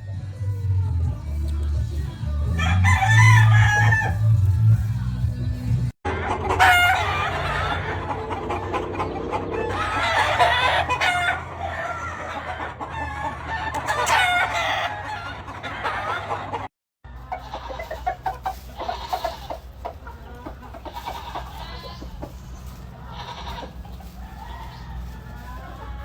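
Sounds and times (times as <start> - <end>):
roosters crowing: 0.8 - 5.2, 6.1 - 26.0
chickens clucking: 0.8 - 26.0.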